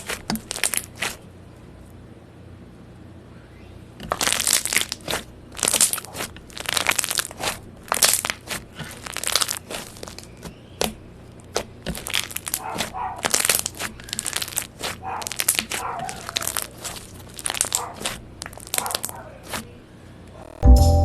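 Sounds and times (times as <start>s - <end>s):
slime crackling and crunching: 0.0s - 1.2s, 4.0s - 19.6s.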